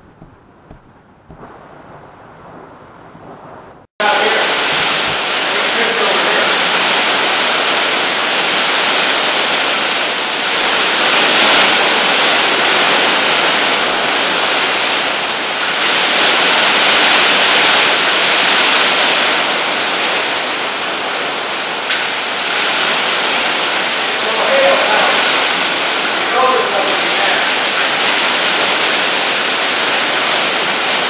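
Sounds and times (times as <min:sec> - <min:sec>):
hail and rain on glass: 0:04.0 - 0:31.0.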